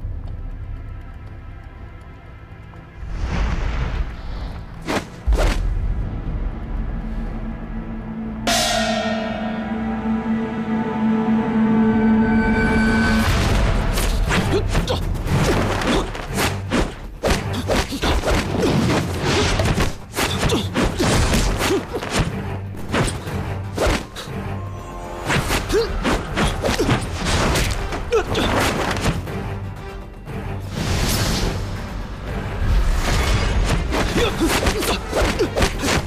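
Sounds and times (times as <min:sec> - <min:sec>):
dramatic music: 0:00.0 - 0:36.0.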